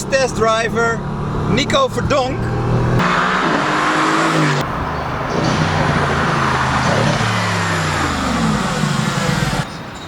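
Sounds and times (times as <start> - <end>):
sports car engine under throttle: 0.0 - 9.7.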